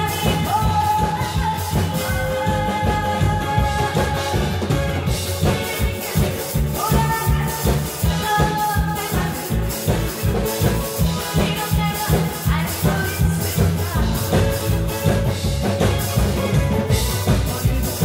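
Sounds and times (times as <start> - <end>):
woman singing into microphone: 0.0 - 15.0
backing track with steady beat: 0.0 - 18.0.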